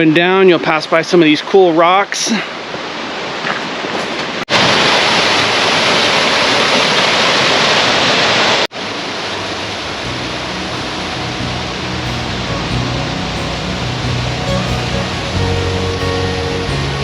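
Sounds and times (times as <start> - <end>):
waterfall rushing into pool: 0.4 - 17.0.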